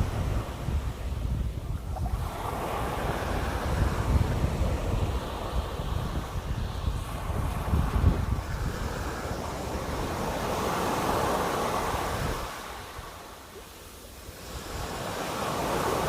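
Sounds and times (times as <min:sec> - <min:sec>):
wind rumble on microphone: 0:00.0 - 0:13.6, 0:14.2 - 0:16.0
sea waves washing on shore: 0:00.0 - 0:16.0.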